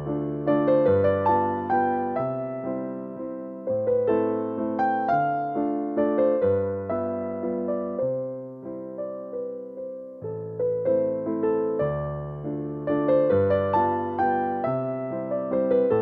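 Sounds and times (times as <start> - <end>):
slow piano chords and melody: 0.0 - 16.0.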